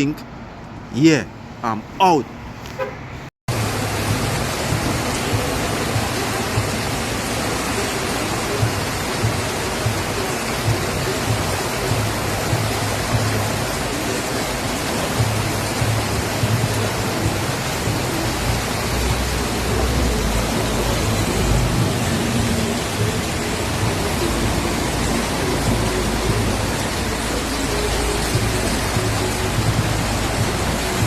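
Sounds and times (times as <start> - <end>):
floodwater rushing: 3.5 - 31.0.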